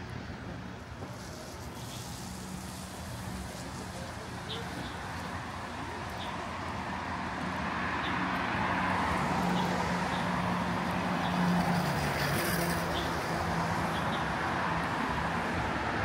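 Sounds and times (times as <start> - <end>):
road traffic noise: 0.0 - 16.0
vehicle engine humming nearby: 0.0 - 16.0.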